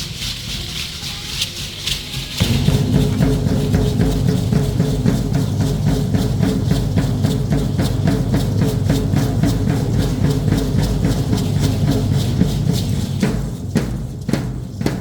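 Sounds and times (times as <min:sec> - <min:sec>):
drum beating fast rhythm: 0:00.0 - 0:15.0
low drum sound: 0:02.3 - 0:15.0.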